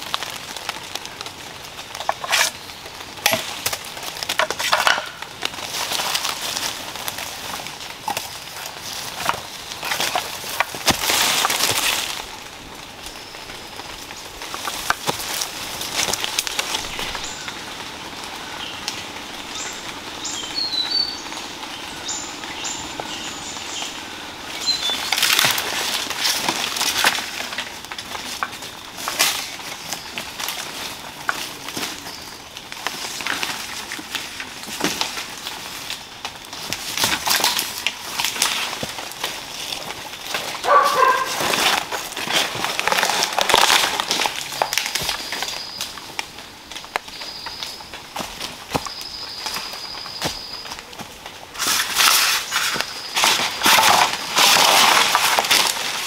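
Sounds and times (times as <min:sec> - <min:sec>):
dry leaves rustling and crunching: 0:00.0 - 0:56.0.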